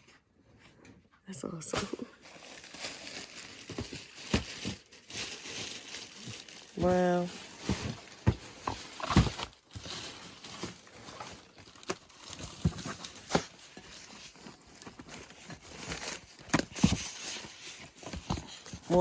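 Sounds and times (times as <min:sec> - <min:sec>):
paper rustling and crinkling: 0:01.7 - 0:19.0.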